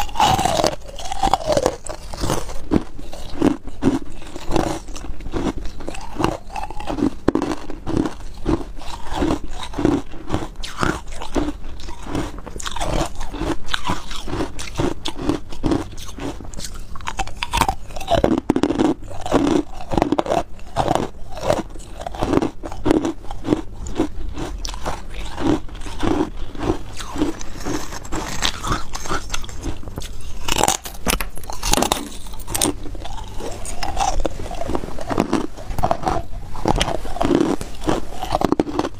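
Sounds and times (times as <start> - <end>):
crunching and chewing ice: 0.0 - 38.9.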